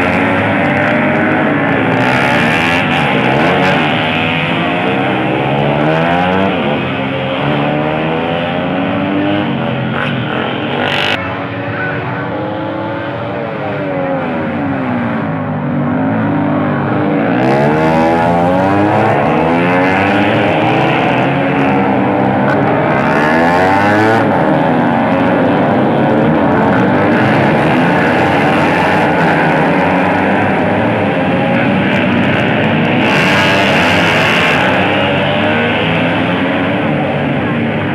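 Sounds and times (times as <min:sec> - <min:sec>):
racing motorcycles passing at high revs: 0:00.0 - 0:37.9.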